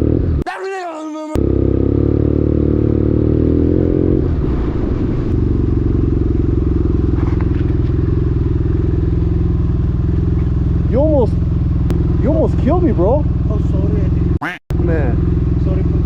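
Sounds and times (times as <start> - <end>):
motorcycle engine running: 0.0 - 0.4, 1.4 - 16.0.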